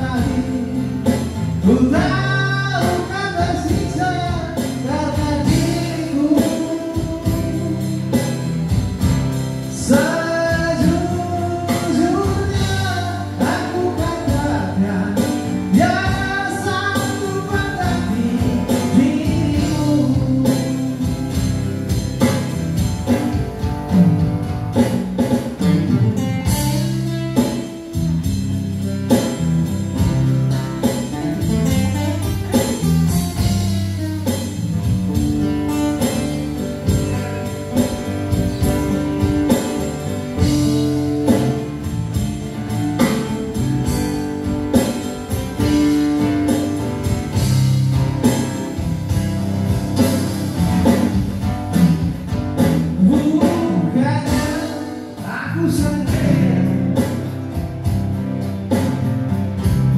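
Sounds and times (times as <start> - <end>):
acoustic guitars strummed and picked: 0.0 - 59.9
live band music: 0.0 - 59.9.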